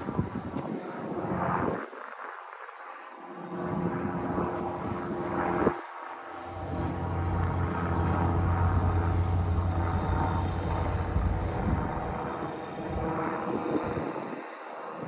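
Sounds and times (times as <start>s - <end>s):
aircraft engine drone overhead: 0.0s - 15.0s.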